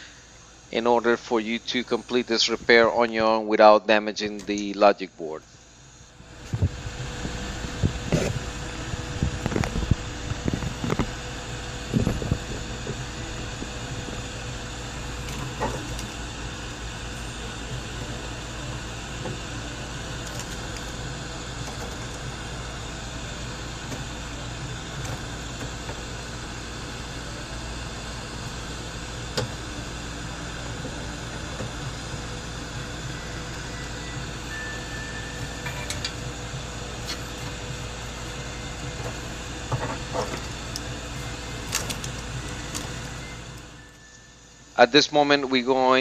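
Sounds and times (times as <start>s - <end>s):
fan blowing with low hum: 0.0s - 46.0s.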